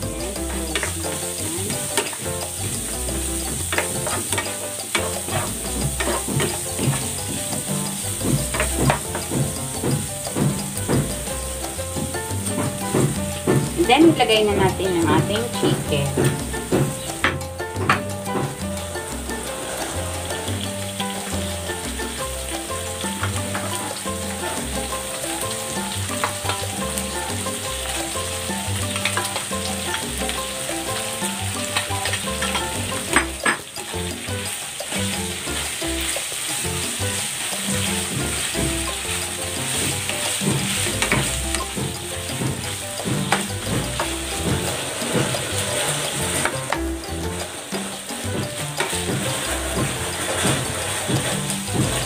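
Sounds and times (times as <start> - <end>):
food sizzling in a pan: 0.0 - 52.0
spatula scraping a pan: 0.6 - 52.0.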